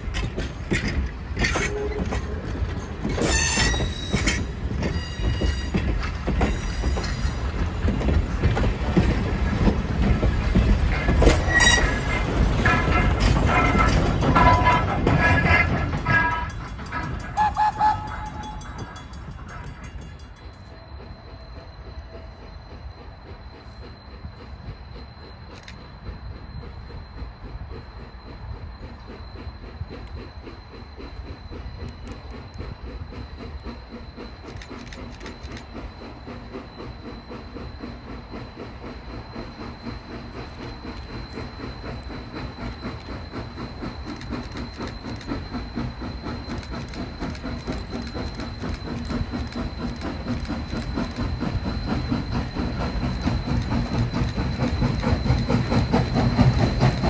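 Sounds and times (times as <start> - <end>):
steam locomotive exhaust beat: 0.0 - 57.0
train running gear: 0.0 - 57.0.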